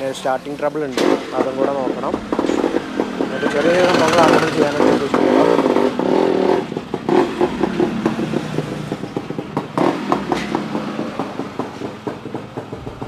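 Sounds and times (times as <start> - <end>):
motorcycle engine running: 0.0 - 13.0
irregular clicks and knocks: 0.7 - 13.0.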